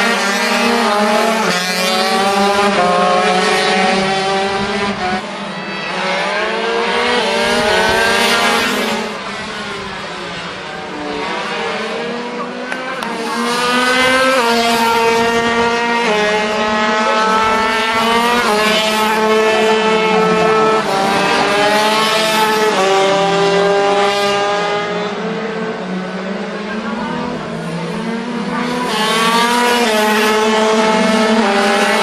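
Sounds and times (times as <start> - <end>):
racing motorcycle engines revving: 0.0 - 32.0.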